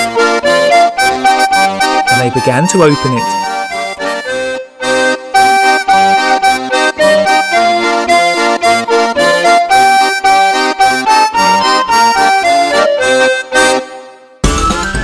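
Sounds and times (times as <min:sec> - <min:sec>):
tune of evenly paced notes: 0:00.0 - 0:15.0.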